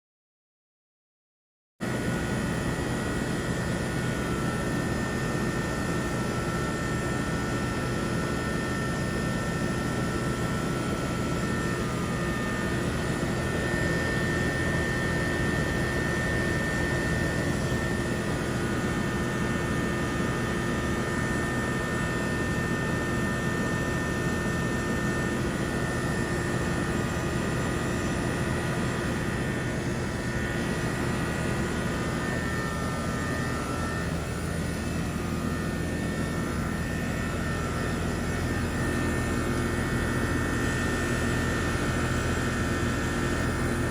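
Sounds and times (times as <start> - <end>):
compressor hum: 1.8 - 43.9
condenser fan rushing: 2.1 - 43.9.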